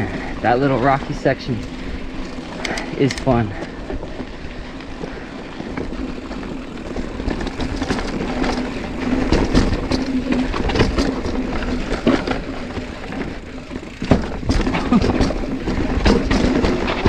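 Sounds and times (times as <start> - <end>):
bike rattling and clacking: 0.0 - 17.0
tyres rolling on rocky dirt: 0.0 - 17.0.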